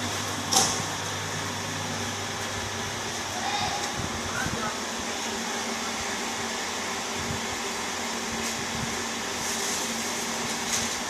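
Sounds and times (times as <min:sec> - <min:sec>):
air conditioner fan rushing: 0:00.0 - 0:11.0.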